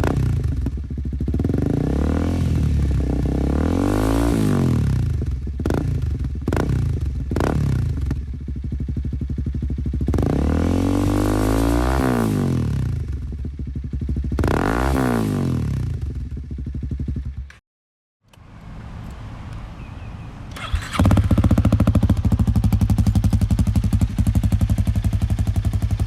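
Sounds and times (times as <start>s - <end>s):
motorcycle engine revving: 0.0s - 17.6s, 20.5s - 26.0s.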